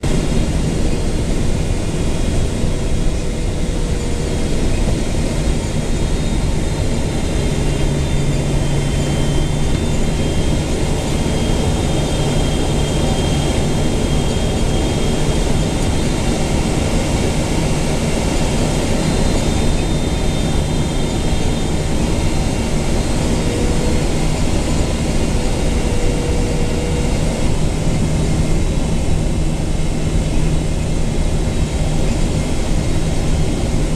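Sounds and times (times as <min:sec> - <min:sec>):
jet engines near idle: 0:00.0 - 0:33.9
rush of airflow in cabin: 0:00.0 - 0:33.9.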